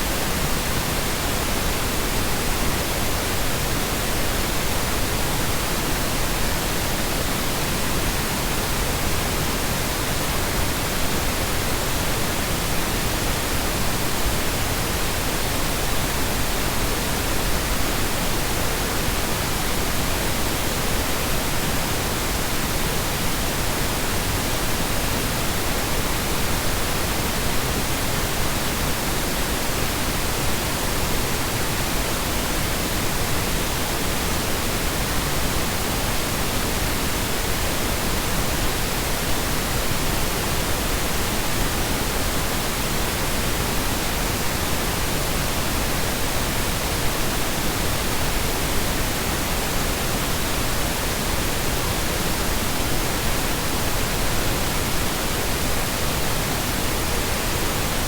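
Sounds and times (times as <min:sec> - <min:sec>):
steady masking noise hiss: 0:00.0 - 0:58.0.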